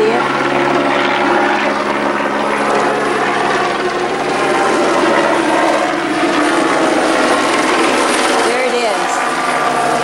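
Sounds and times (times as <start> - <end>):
helicopter flying low overhead: 0.0 - 10.0.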